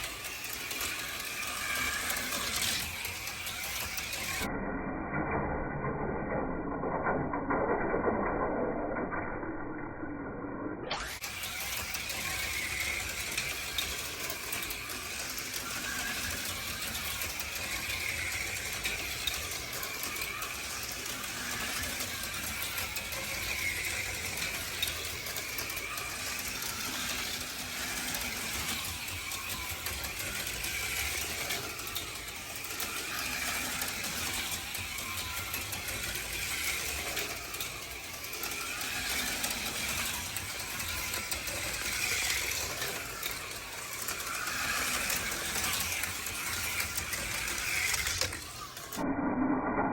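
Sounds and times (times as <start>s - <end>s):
slot cars rattling in track: 0.0s - 4.5s, 10.9s - 49.0s
small electric motors whining: 0.0s - 4.5s, 10.8s - 49.2s.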